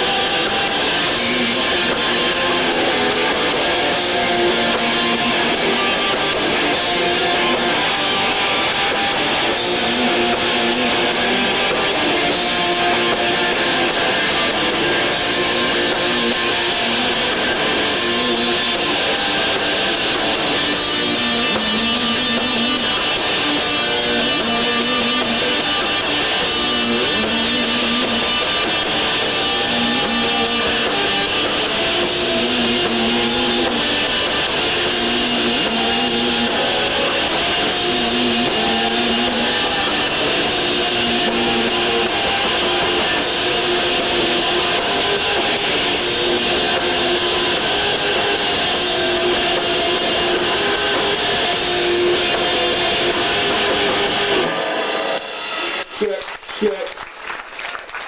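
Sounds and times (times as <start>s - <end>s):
cymbal beat: 0.0s - 56.2s
rock band playing live: 0.0s - 56.9s.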